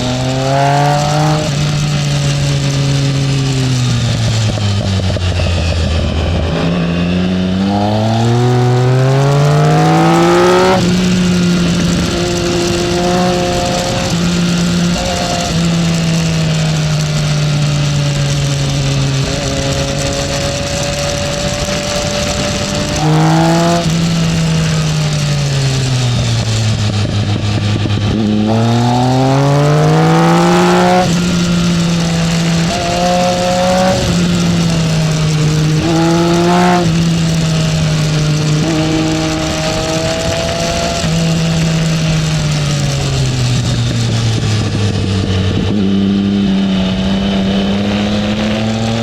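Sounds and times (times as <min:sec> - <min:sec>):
motorcycle engine at speed: 0:00.0 - 0:49.0
wind rush: 0:00.0 - 0:49.0.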